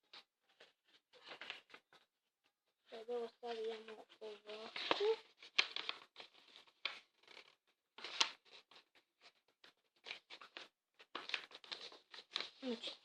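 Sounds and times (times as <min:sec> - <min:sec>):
paper crackle: 0:00.1 - 0:02.0, 0:03.0 - 0:13.0
paper being folded and creased: 0:00.1 - 0:02.1, 0:02.9 - 0:13.0.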